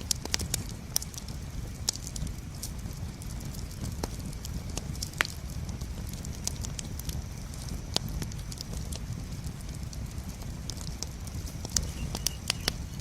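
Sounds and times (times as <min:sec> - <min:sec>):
campfire flame rumble: 0:00.0 - 0:13.0
fire popping and crackling: 0:00.0 - 0:13.0.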